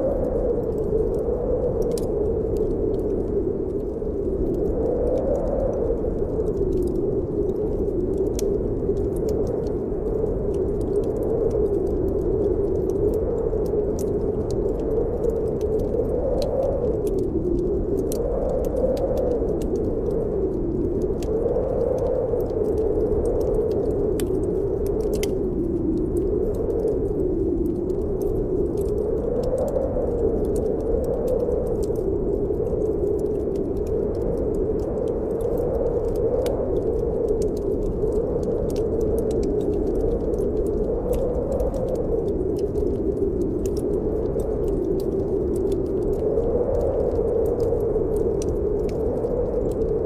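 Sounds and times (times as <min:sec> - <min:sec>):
snowstorm wind blowing: 0:00.0 - 0:50.0
wood fire crackling: 0:00.0 - 0:50.0.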